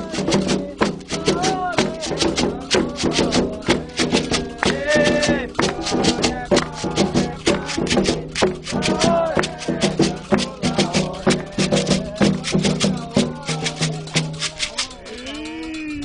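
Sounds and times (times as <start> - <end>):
fast percussion strikes: 0.0 - 16.0
shaker rattling: 0.0 - 16.0
voices singing: 0.0 - 16.0.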